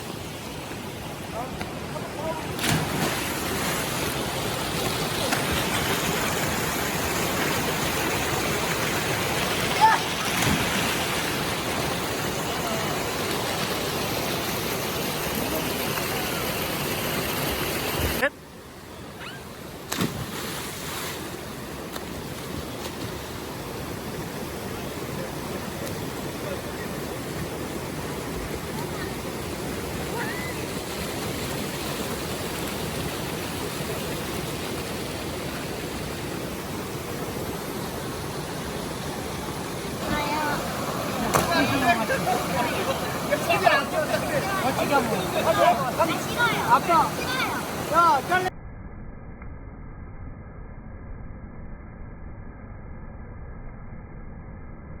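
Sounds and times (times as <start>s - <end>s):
flowing stream water: 0.0s - 48.5s.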